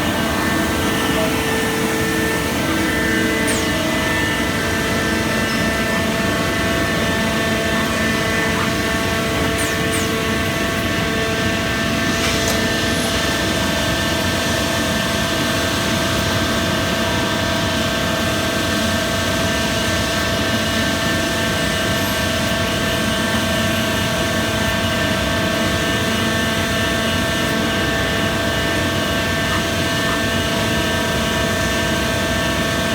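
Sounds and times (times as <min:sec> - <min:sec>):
lathe machine humming and whining: 0:00.0 - 0:32.9.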